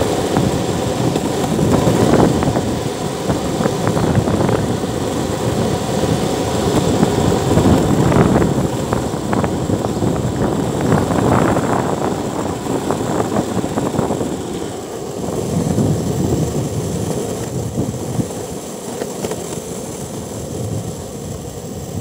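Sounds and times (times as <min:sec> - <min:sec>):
small clicks from road: 0:00.0 - 0:10.1, 0:12.2 - 0:22.0
longboard wheels rolling on asphalt: 0:00.0 - 0:22.0.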